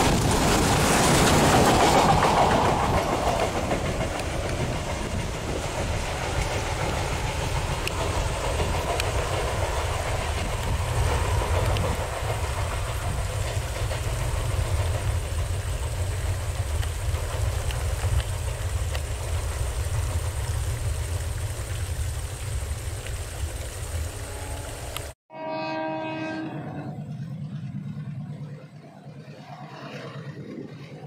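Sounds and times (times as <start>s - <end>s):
train wheels clicking over track: 0.0s - 25.2s
train rumble: 0.0s - 31.0s.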